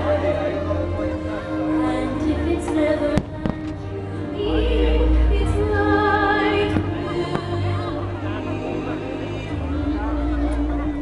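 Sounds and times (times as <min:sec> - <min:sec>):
music with singing: 0:00.0 - 0:11.0.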